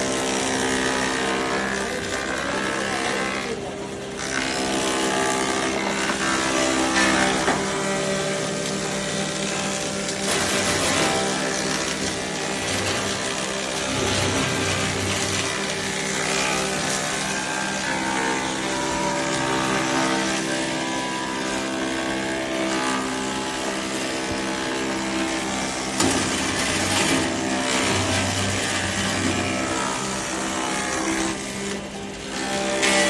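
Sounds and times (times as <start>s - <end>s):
wood planer running: 0.0s - 33.0s.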